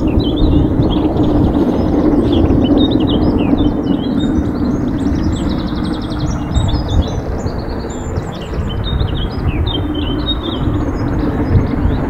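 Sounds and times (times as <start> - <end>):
distant steam locomotive rumble: 0.0 - 12.0
songbirds chirping and singing: 0.0 - 12.0.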